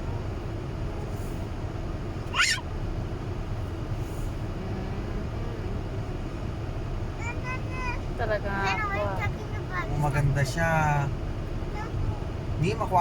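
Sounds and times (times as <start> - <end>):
car wash rumble: 0.0 - 13.0.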